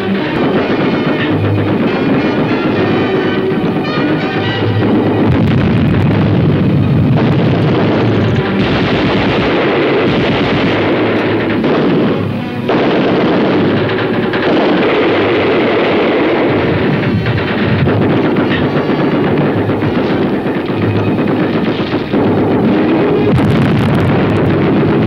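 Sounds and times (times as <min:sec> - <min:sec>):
booming blasts: 0:00.0 - 0:25.0
dramatic background music: 0:00.0 - 0:25.0
rifle and machine-gun fire: 0:00.0 - 0:25.0.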